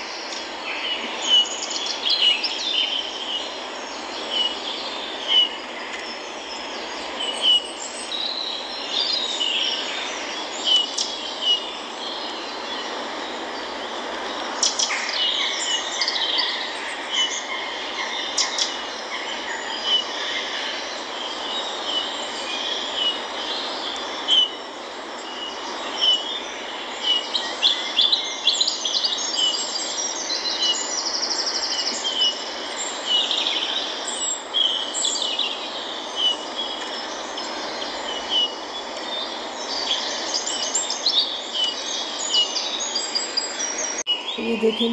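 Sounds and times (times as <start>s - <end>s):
bird chirping: 0.0s - 13.0s, 14.6s - 44.9s.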